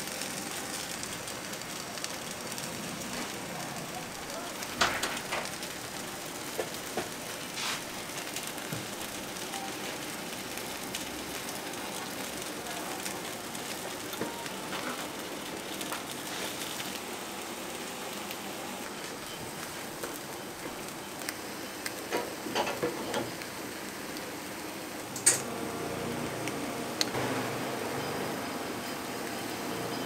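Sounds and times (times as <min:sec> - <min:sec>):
batter sizzling in molds: 0:00.0 - 0:30.0.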